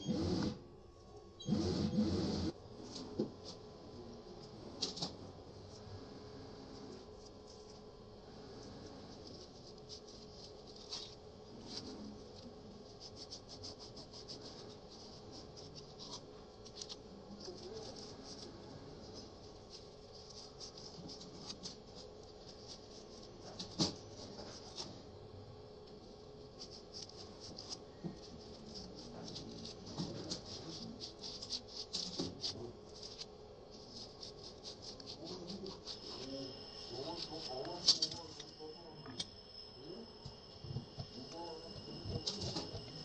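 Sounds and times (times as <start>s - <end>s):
faint steady hum: 2.1s - 43.0s.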